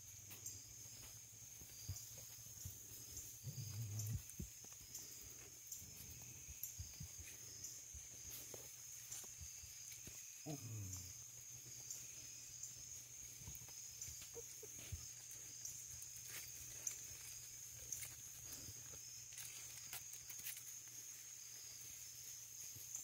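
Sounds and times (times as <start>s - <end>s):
faint high-pitched hiss: 0.0s - 23.0s.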